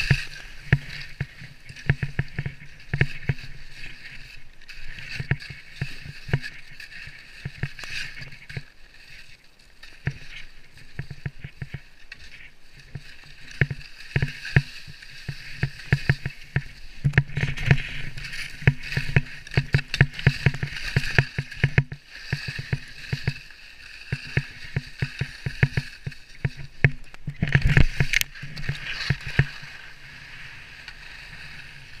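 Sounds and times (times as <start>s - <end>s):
skis hissing on snow: 0.0s - 10.9s, 11.9s - 26.4s, 27.8s - 32.0s
skis and poles knocking: 0.0s - 32.0s.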